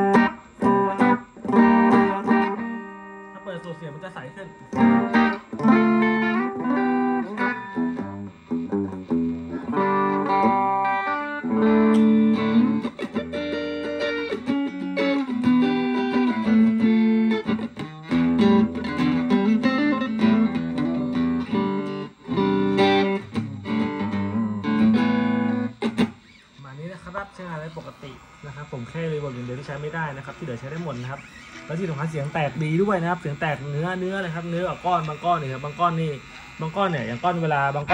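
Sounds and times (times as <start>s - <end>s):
clean electric guitar: 0.0s - 37.9s.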